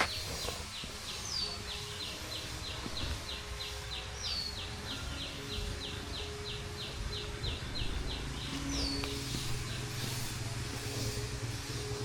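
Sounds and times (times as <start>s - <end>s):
bird chirping rapidly: 0.1s - 10.3s.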